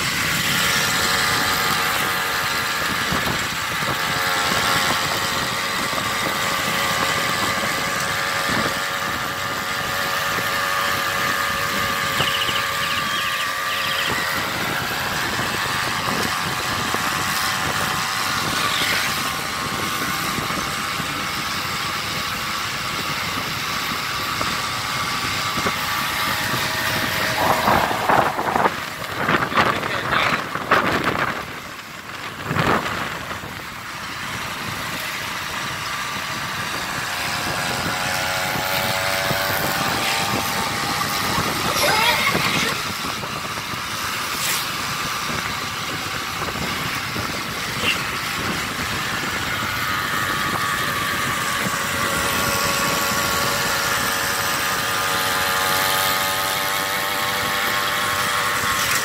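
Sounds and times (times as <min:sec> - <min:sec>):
loud irregular noise: 0:00.0 - 0:59.0
small engine buzzing: 0:00.0 - 0:59.0.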